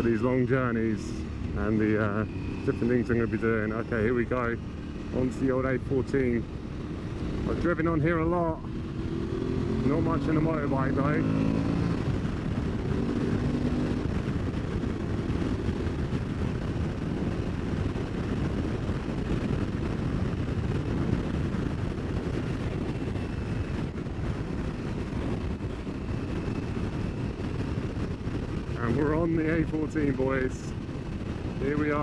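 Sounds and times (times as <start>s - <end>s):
motorcycle engine and wind rumble: 0.0s - 32.0s.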